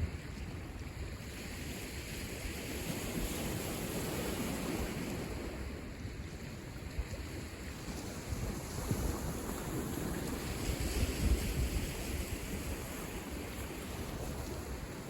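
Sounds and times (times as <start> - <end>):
waves washing onto shore: 0.0 - 15.0
wind rumbling on microphone: 0.0 - 15.0.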